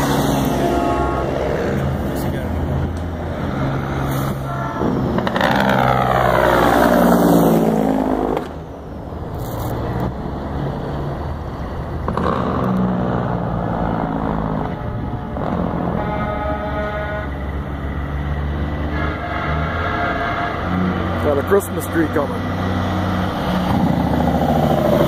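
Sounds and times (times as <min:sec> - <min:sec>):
truck passing by: 0:00.0 - 0:25.0.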